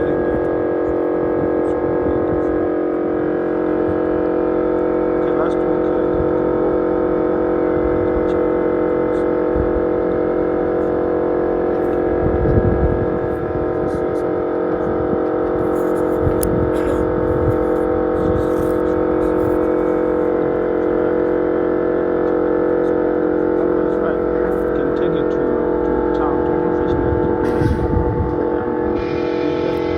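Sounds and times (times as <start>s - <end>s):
low rumbling: 0.0s - 29.9s
motor running with droning tone: 0.0s - 29.9s.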